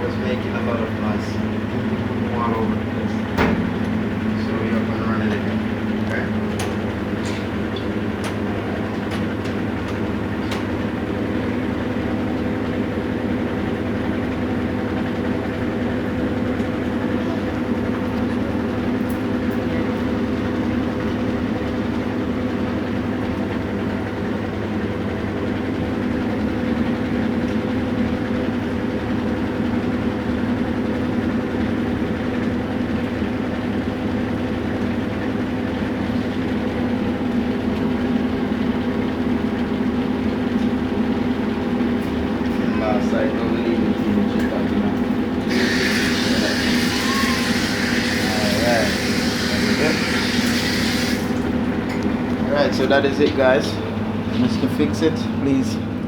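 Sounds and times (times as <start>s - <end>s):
washing machine spinning: 0.0s - 56.0s.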